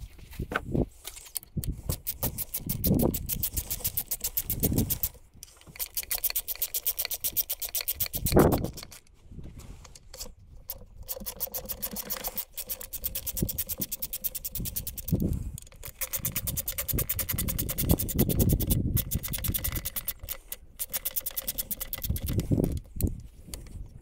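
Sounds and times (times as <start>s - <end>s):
socket ratchet clicking: 1.4s - 9.1s, 10.2s - 23.7s.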